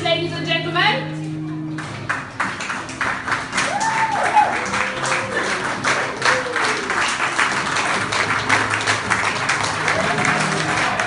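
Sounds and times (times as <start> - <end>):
entrance music: 0.0 - 11.0
audience clapping: 1.7 - 11.0.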